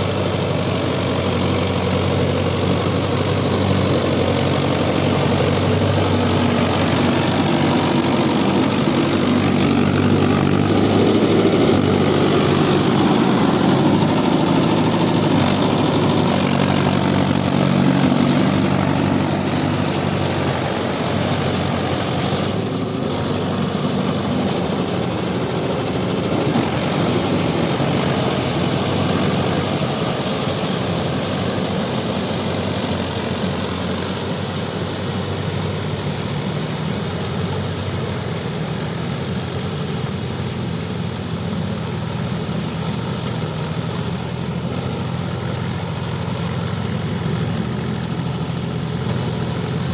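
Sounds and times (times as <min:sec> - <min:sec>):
rotavator churning mud: 0:00.0 - 0:49.9
tractor diesel engine running: 0:00.0 - 0:49.9.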